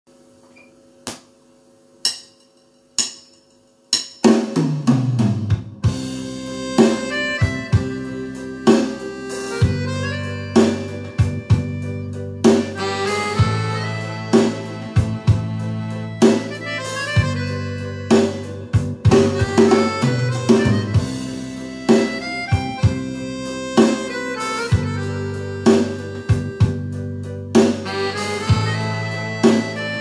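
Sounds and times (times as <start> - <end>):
accordion music with bass and drums: 4.3 - 30.0.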